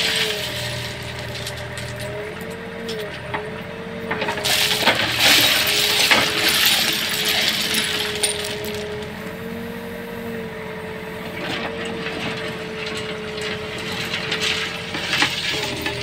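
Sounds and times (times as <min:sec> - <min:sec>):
stone ballast clattering: 0:00.0 - 0:03.4, 0:04.1 - 0:09.2, 0:11.6 - 0:16.0
backhoe engine droning: 0:00.0 - 0:16.0.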